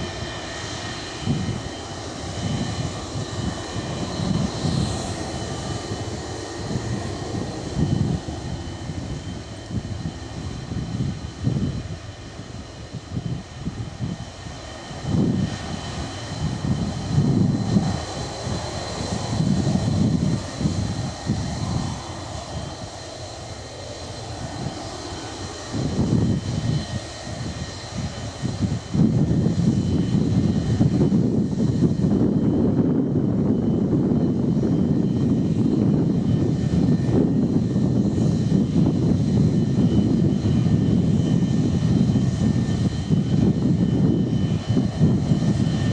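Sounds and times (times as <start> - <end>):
jet engine rumble: 0.0 - 45.9
jet engines whining: 0.0 - 45.9.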